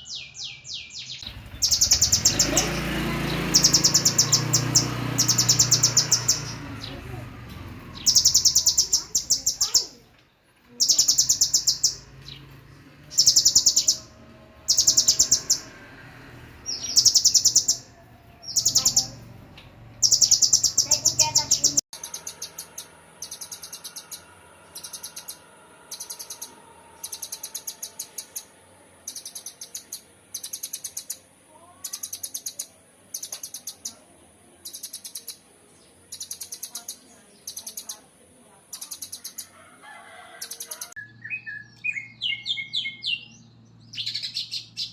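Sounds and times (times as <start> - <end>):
songbird trills: 0.0 - 7.3, 7.9 - 15.8, 16.6 - 19.3, 20.0 - 38.1, 38.7 - 44.9.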